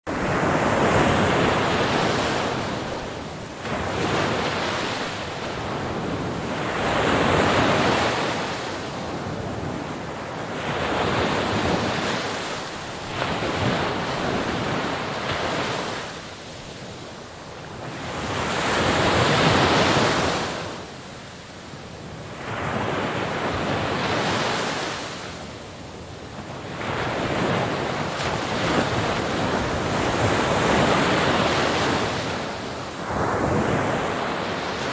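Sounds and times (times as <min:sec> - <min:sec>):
sea waves breaking: 0:00.1 - 0:21.1, 0:26.4 - 0:34.9.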